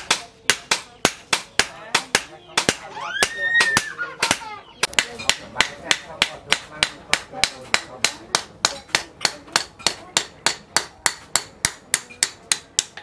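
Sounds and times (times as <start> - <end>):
hammer striking metal on anvil: 0.0 - 13.0.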